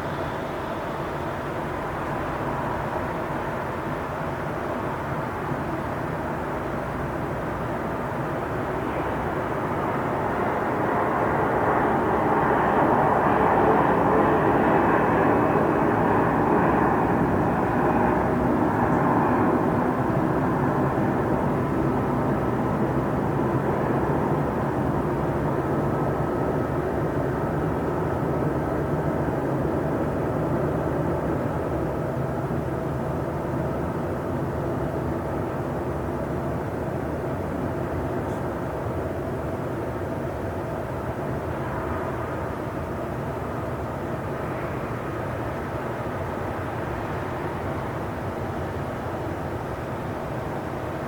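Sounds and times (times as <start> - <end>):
steady mechanical rumble: 0.0 - 51.0.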